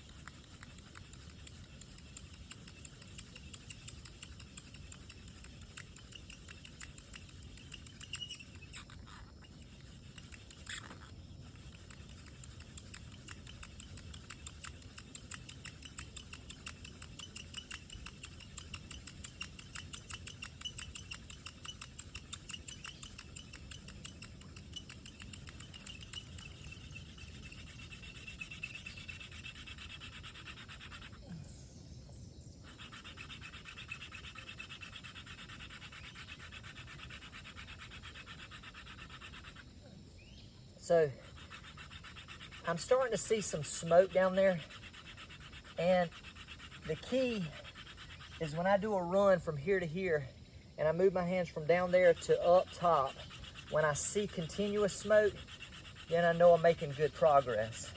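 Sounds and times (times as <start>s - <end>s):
wooden spindle rubbing in notch: 0.0s - 31.2s, 32.6s - 39.6s, 41.3s - 49.4s, 51.4s - 57.9s.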